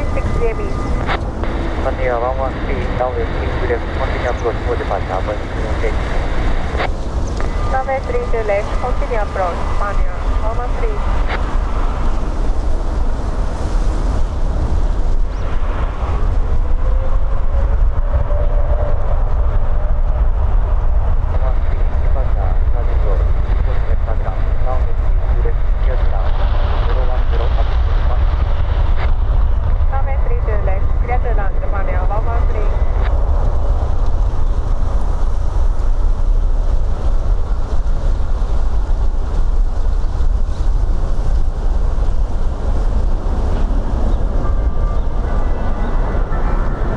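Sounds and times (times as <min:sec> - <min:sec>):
jet engine rumble: 0:00.0 - 0:46.9
wind buffeting microphone: 0:00.0 - 0:46.9.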